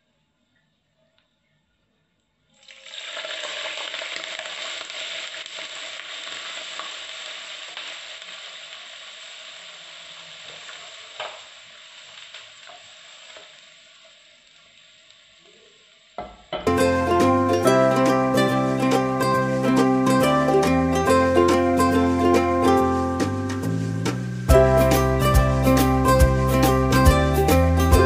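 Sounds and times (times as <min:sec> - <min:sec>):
hot oil sizzling: 0:02.6 - 0:28.0.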